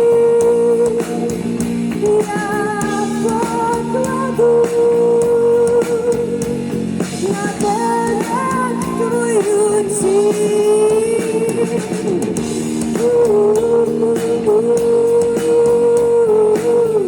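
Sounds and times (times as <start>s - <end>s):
drums: 0.0s - 17.0s
guitar: 0.0s - 17.0s
person singing long notes: 0.0s - 17.0s.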